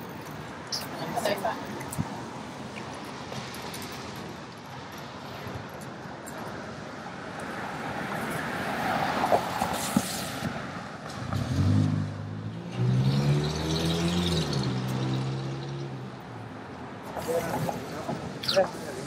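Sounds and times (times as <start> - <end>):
car passing with tyre noise: 0.0 - 19.0.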